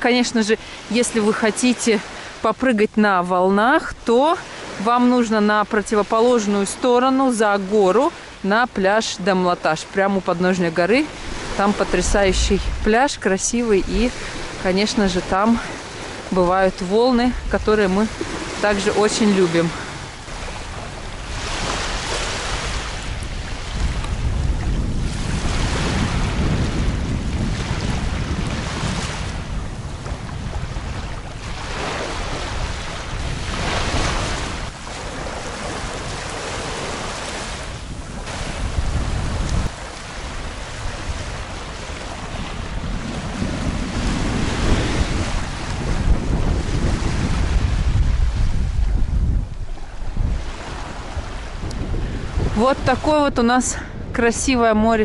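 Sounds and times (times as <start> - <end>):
small waves breaking on a beach: 0.0 - 55.0
wind buffeting microphone: 0.0 - 55.0.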